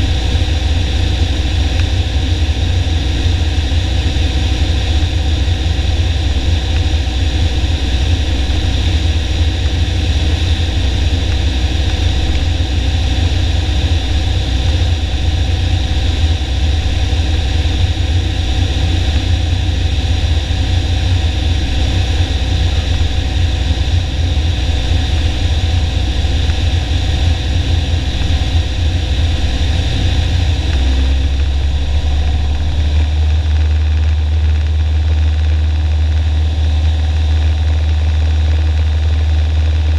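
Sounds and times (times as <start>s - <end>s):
aircraft engine droning in cockpit: 0.0s - 39.9s.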